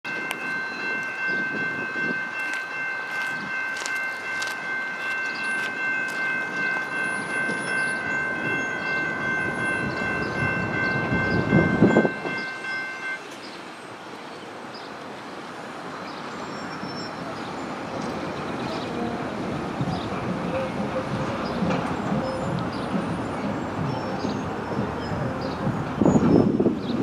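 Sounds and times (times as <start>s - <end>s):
train rumble: 0.1s - 14.2s, 15.1s - 27.0s.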